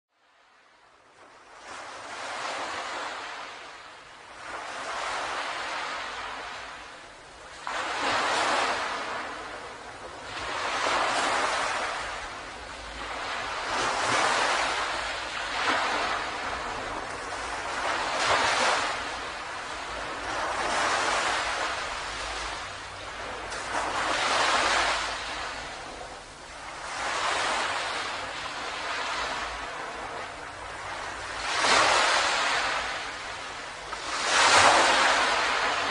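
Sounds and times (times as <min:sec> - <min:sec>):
ocean waves breaking on beach: 0:00.2 - 0:35.9.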